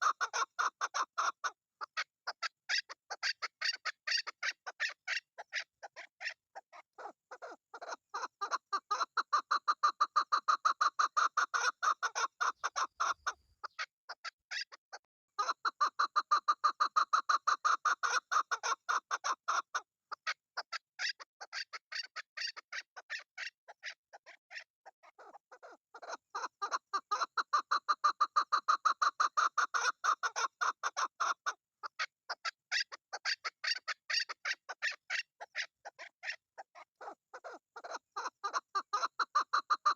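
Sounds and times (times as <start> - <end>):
partridge clucking calls: 0.0 - 39.9.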